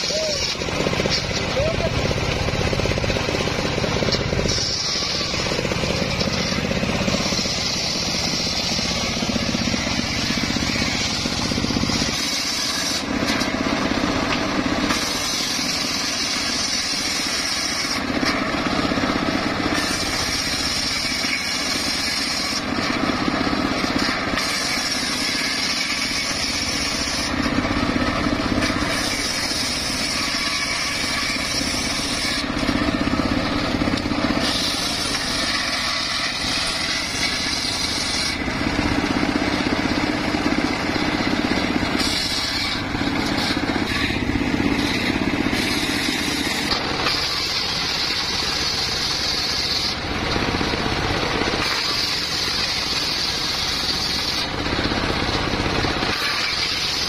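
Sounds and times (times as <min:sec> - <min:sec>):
circular saw drone: 0:00.0 - 0:23.0, 0:23.7 - 0:50.8
saw blade cutting hiss: 0:00.0 - 0:50.3, 0:51.2 - 0:57.0.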